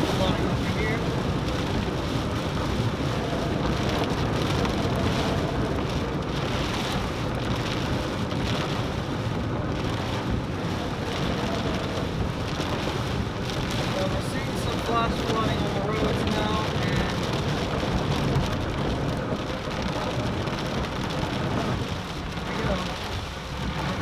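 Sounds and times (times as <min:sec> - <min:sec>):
rain beating on a car: 0:00.0 - 0:24.0
road and tyre noise: 0:00.0 - 0:24.0.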